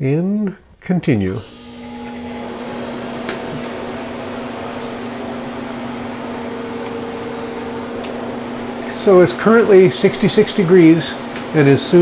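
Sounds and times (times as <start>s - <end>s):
compressor and fan humming: 1.3s - 12.0s.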